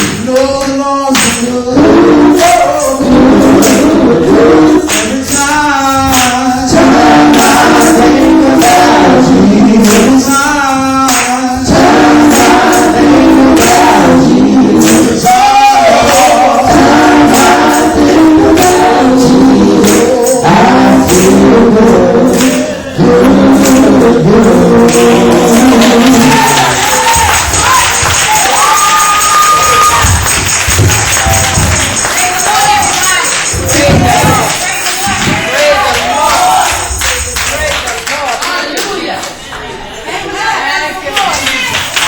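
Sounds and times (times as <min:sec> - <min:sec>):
tambourine beat: 0:00.0 - 0:38.0
voices singing gospel: 0:00.0 - 0:42.0.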